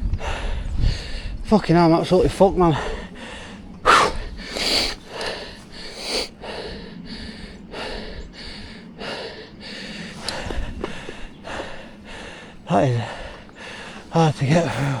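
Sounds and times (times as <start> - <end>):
man panting: 0.0 - 15.0.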